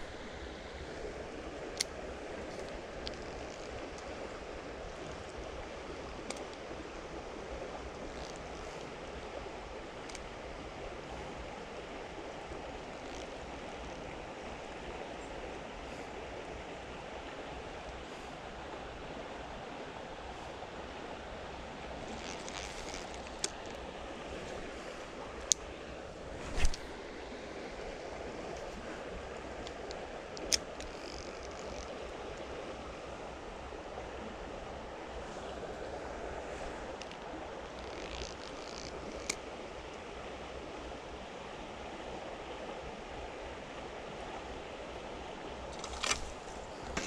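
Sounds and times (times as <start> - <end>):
creek water flowing: 0.0 - 47.0.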